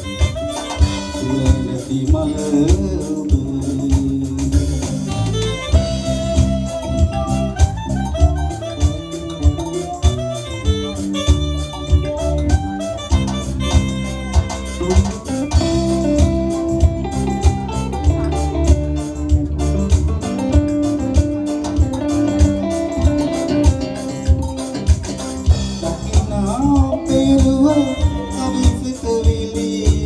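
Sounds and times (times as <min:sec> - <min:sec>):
bass: 0:00.0 - 0:30.0
electric guitar: 0:00.0 - 0:30.0
keyboards: 0:00.0 - 0:30.0
steady drum beat: 0:00.0 - 0:30.0.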